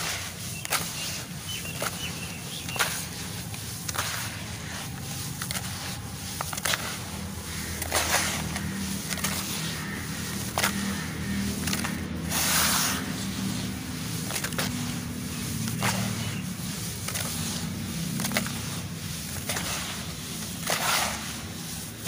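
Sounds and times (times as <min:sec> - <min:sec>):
churning grit: 0:00.0 - 0:22.0
hands squelching wet charcoal paste: 0:00.0 - 0:22.0
steady low hum: 0:01.2 - 0:22.0.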